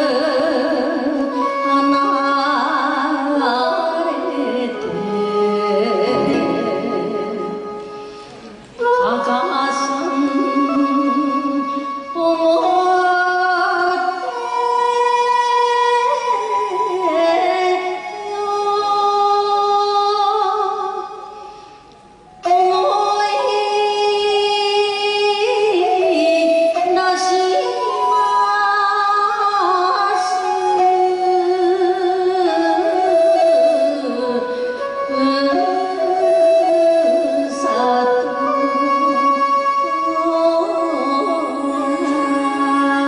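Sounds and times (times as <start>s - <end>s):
woman singing into microphone: 0.0s - 7.8s, 8.6s - 21.1s, 22.4s - 43.0s.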